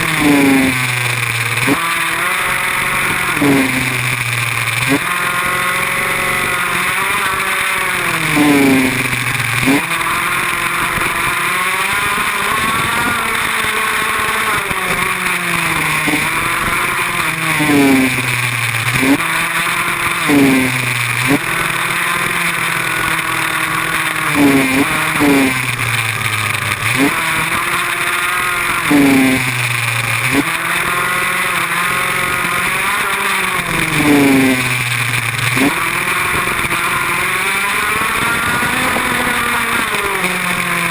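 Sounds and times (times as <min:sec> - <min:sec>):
off-road motorbike engine revving: 0:00.0 - 0:40.9.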